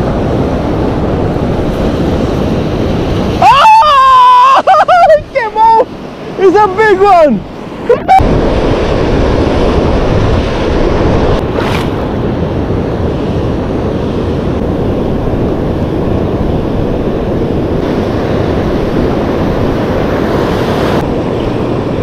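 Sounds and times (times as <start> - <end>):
ocean surf rushing: 0.0 - 22.0
wind buffeting microphone: 0.0 - 22.0.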